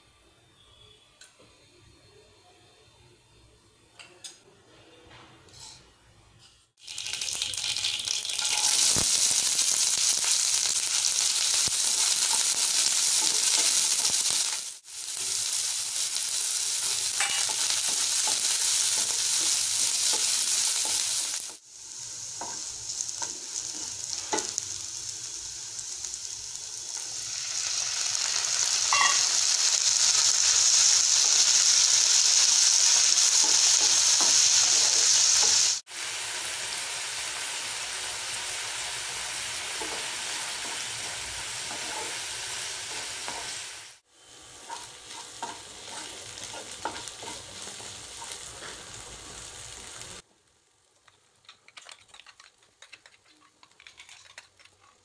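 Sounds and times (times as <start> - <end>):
oil sizzling in a pan: 6.8 - 55.0.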